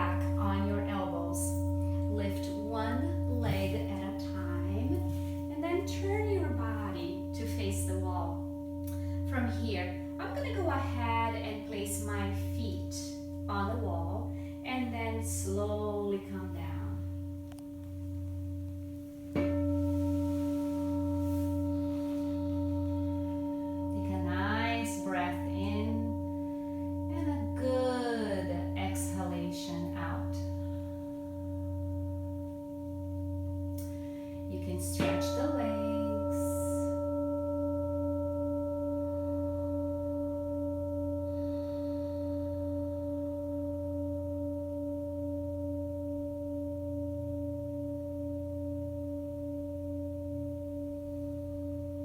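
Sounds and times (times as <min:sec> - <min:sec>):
singing bowl ringing: 0:00.0 - 0:52.0.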